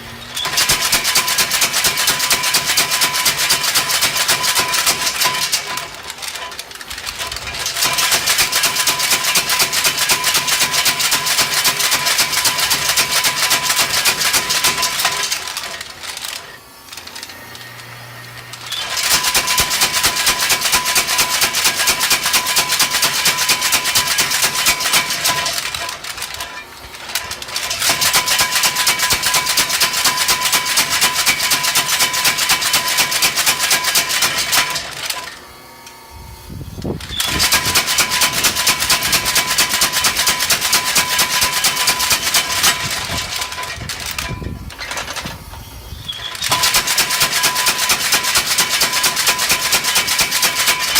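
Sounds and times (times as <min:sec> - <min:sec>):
power hammer pounding: 0:00.0 - 0:17.6, 0:18.6 - 0:35.4, 0:37.0 - 0:50.9.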